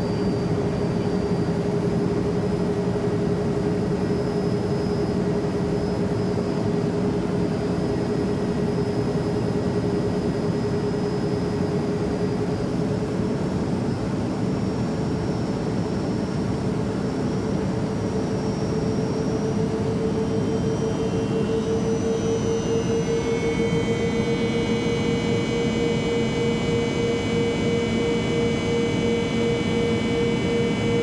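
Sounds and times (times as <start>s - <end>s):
jet airliner in flight: 0.0s - 31.0s.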